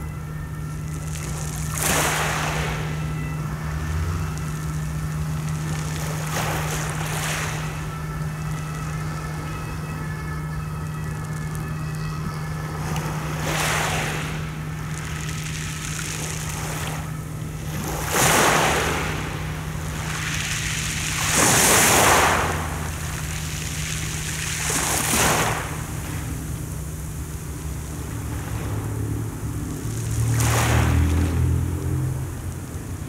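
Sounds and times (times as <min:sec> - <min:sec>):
steady low hum: 0:00.0 - 0:33.0
waves washing over pebbles: 0:00.8 - 0:09.4, 0:12.7 - 0:27.1, 0:27.8 - 0:33.0.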